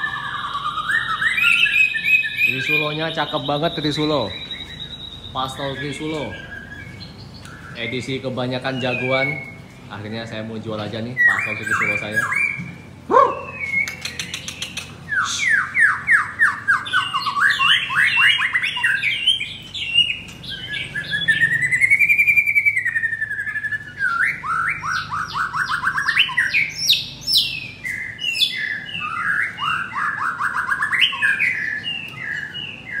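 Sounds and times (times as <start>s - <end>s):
songbird singing whistled notes: 0.0s - 10.3s, 10.9s - 33.0s.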